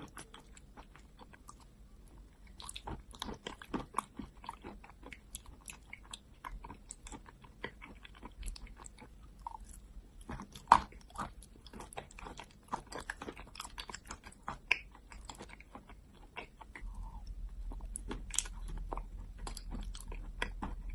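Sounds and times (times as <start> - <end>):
sticky mouth smacking and chewing: 0.0 - 20.9.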